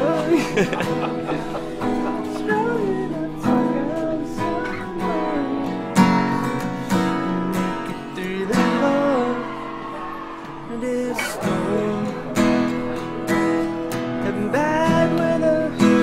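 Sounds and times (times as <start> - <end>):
man singing: 0.0 - 13.3, 14.0 - 16.0
acoustic guitar strumming: 0.0 - 16.0.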